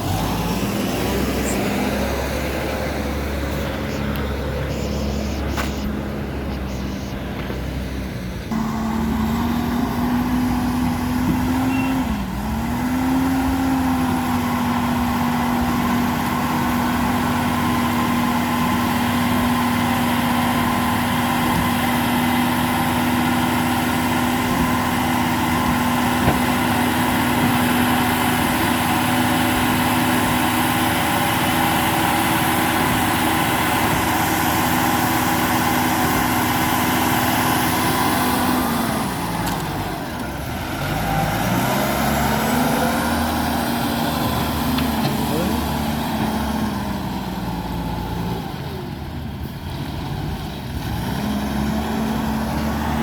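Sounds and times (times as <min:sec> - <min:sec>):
wheel loader diesel engine running: 0:00.0 - 0:53.0.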